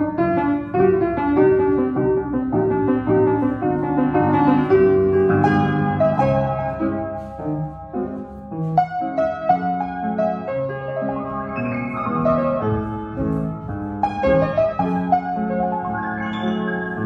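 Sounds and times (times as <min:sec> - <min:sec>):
solo piano chords: 0:00.0 - 0:17.0.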